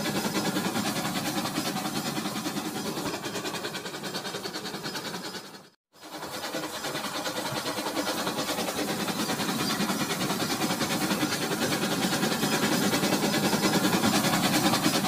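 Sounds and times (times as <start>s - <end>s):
toy train motor whirring: 0.0s - 15.0s
wheels ticking over track: 0.0s - 15.0s.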